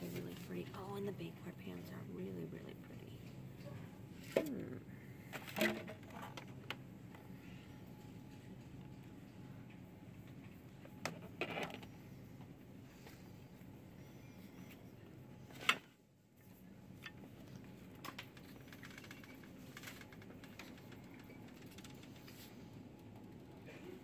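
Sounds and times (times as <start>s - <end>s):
shop background hum: 0.0s - 24.0s.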